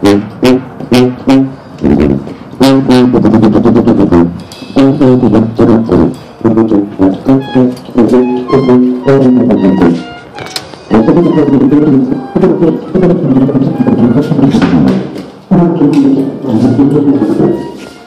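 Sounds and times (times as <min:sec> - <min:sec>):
sousaphone playing low notes: 0:00.0 - 0:18.0.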